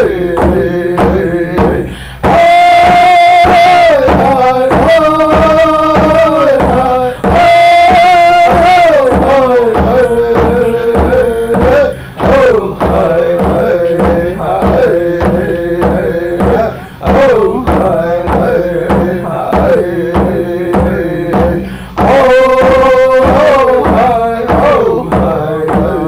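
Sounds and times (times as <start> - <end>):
man singing long gliding notes: 0.0 - 26.0
steady drumbeat: 0.0 - 26.0.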